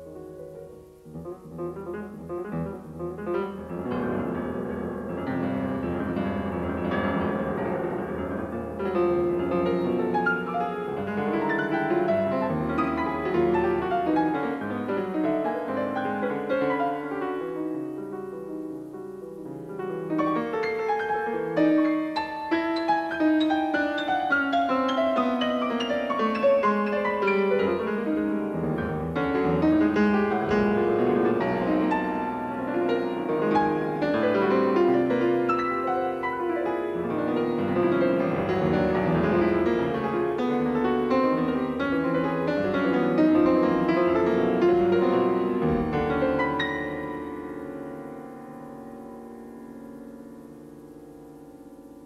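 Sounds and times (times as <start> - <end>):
solo grand piano: 0.0 - 52.0.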